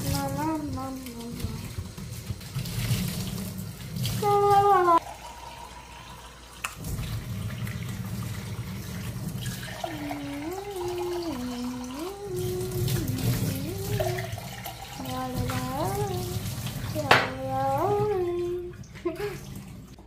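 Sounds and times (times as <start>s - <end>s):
tap water splashing over hair: 0.0s - 5.1s, 6.6s - 20.0s.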